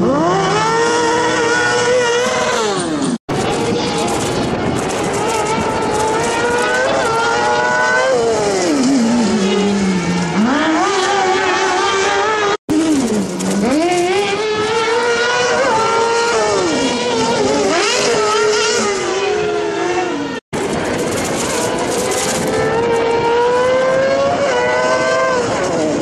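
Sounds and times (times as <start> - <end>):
motorcycle engines revving hard: 0.0 - 26.0.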